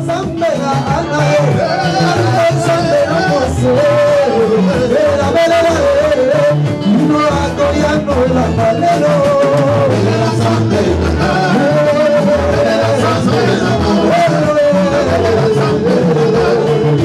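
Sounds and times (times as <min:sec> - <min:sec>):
gospel band playing: 0:00.0 - 0:17.0
men singing together: 0:00.0 - 0:17.0.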